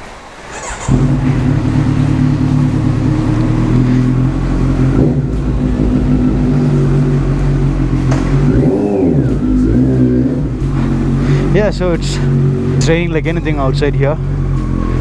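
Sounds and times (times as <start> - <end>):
motorcycle engine running: 0.4 - 15.0.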